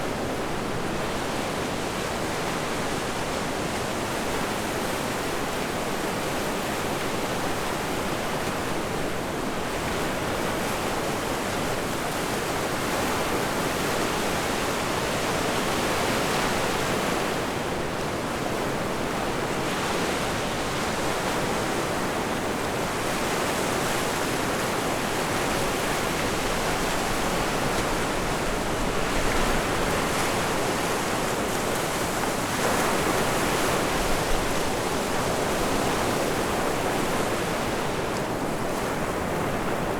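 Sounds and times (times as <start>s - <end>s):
wind: 0.0s - 39.9s
ocean surf: 0.1s - 39.9s.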